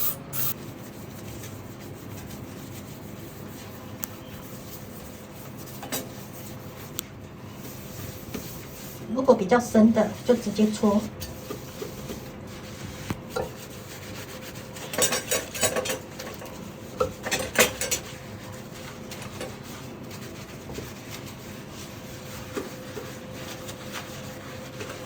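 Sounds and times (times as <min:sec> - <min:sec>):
scrubbing a washbasin: 0:00.4 - 0:25.0.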